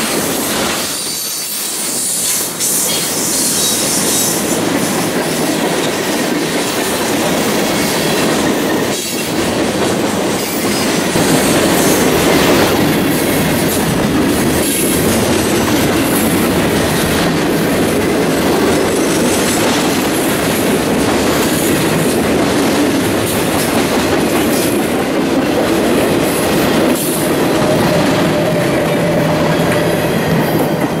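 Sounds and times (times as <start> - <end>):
freight train rumbling past: 0.0 - 31.0
train wheels clickety-clack: 0.0 - 31.0.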